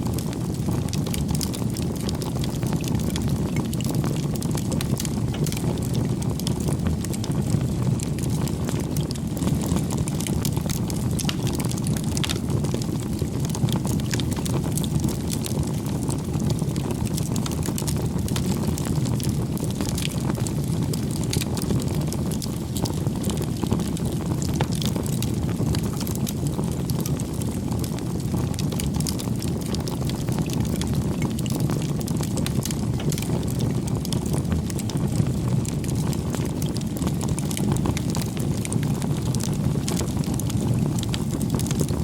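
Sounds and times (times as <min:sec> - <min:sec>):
fire crackles and pops: 0:00.0 - 0:42.0
wood fire roaring: 0:00.0 - 0:42.0.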